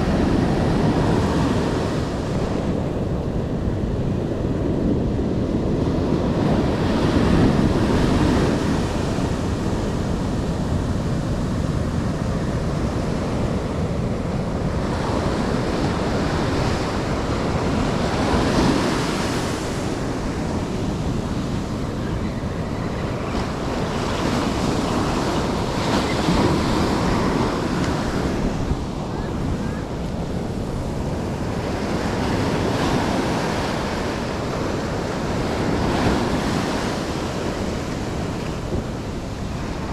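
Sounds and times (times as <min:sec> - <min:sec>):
waves breaking on a beach: 0:00.0 - 0:39.9
wind rumbling on microphone: 0:00.0 - 0:39.9.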